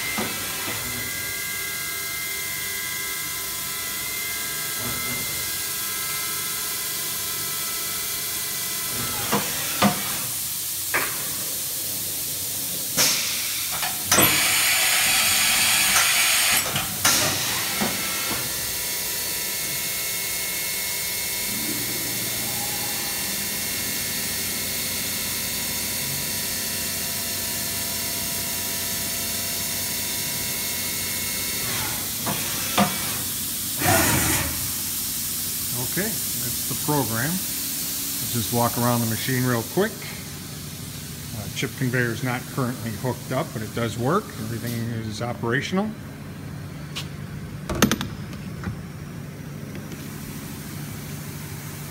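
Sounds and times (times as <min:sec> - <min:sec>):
loud machine hiss: 0:00.0 - 0:45.9, 0:50.0 - 0:51.9
machining center running hum: 0:00.0 - 0:51.9.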